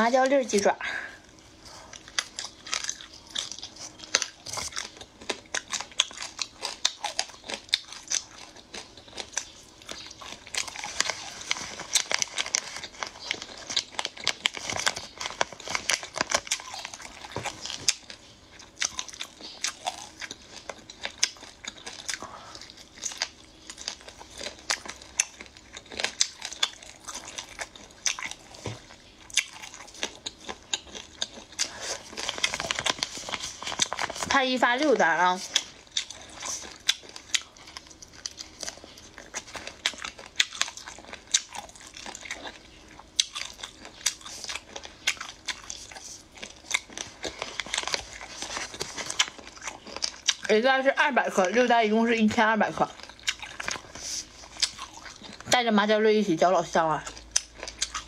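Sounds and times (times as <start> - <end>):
biting crunching and wet chewing: 1.2 - 55.6, 56.9 - 58.0
plastic bag crinkling: 2.0 - 29.0, 29.6 - 42.6, 43.4 - 55.5.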